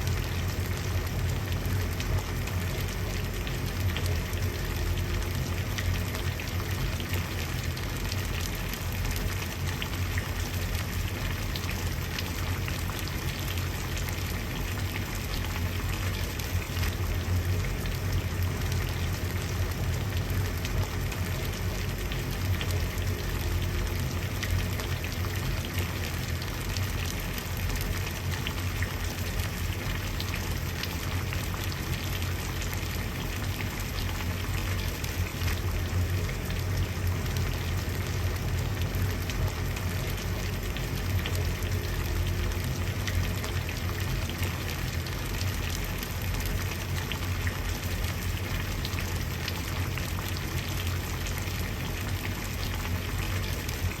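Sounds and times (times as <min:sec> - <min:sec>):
water boiling and bubbling: 0:00.0 - 0:54.0.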